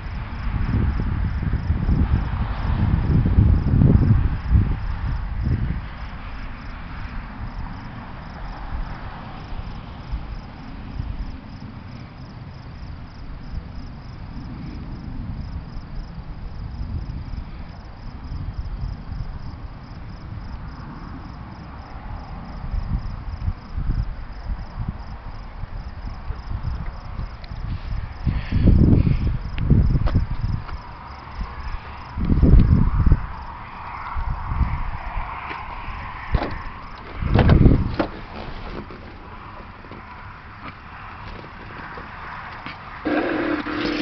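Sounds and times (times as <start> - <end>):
crickets chirping faintly: 0.0 - 44.0.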